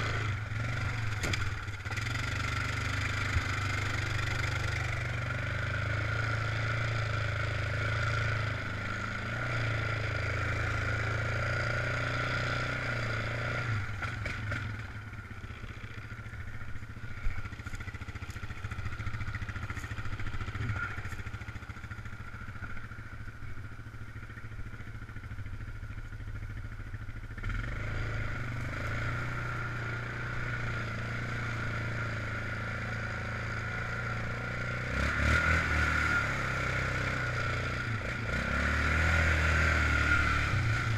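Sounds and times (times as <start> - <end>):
quad engine running: 0.0 - 40.9.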